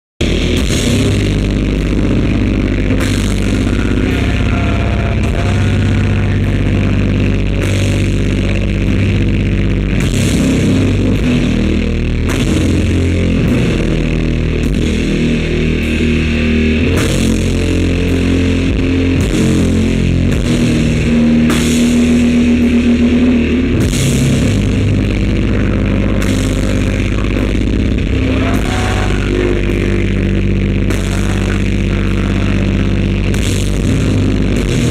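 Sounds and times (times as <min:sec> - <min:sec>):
heavy rock band playing: 0:00.2 - 0:34.9.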